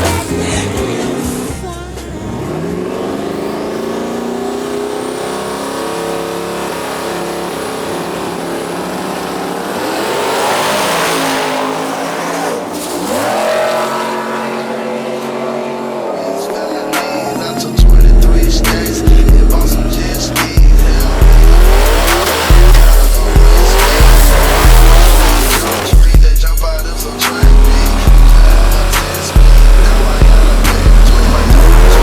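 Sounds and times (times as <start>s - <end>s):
race car engine accelerating: 0.0s - 32.0s.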